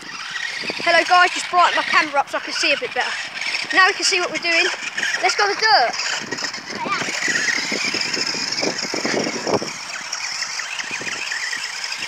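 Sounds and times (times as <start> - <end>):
rc car motor whining: 0.0 - 12.0.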